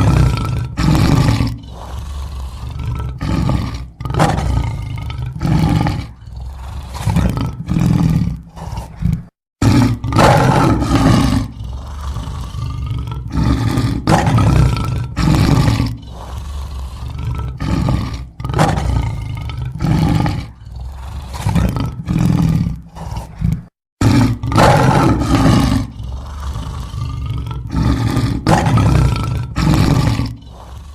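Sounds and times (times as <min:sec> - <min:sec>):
lion roaring: 0:00.0 - 0:30.9.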